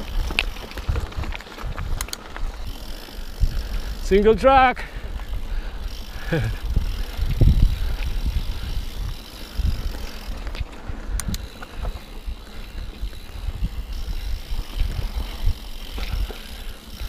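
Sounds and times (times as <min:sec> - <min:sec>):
bike clicks and rattles: 0:00.0 - 0:17.0
bike tyres rumbling on dirt: 0:00.0 - 0:17.0
wind on microphone: 0:00.0 - 0:17.0.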